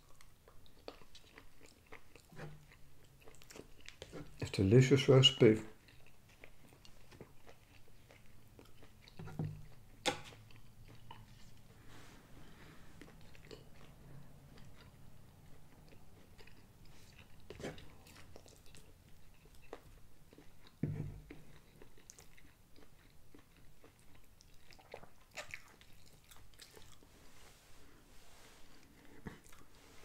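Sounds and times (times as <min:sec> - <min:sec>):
chewing: 0:00.0 - 0:11.7, 0:12.4 - 0:27.2, 0:28.7 - 0:30.0.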